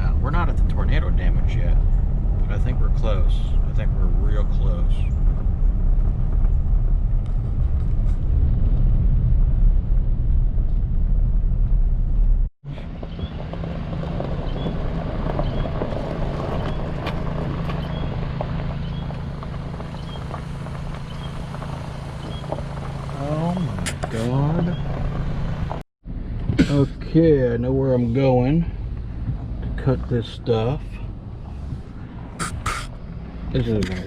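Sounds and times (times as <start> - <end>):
truck engine and road rumble: 0.0 - 34.0.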